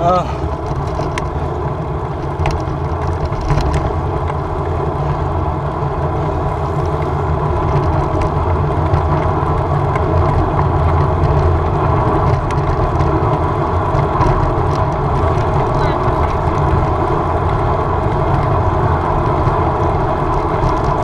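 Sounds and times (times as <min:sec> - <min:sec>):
bicycle tyre and road noise: 0:00.0 - 0:21.0
wind buffeting microphone: 0:00.0 - 0:21.0.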